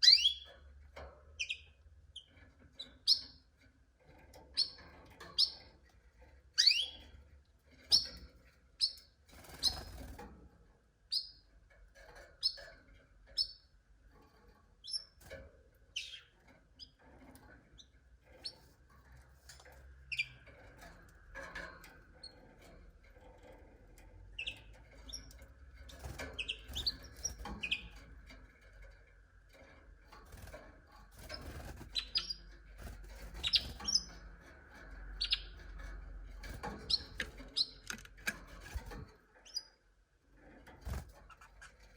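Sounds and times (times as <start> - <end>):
canaries chirping: 0.0 - 0.7, 1.4 - 3.6, 4.3 - 5.7, 6.5 - 7.2, 7.8 - 10.2, 11.1 - 13.7, 14.8 - 18.8, 19.4 - 22.7, 23.3 - 28.9, 29.5 - 39.8, 40.4 - 41.9.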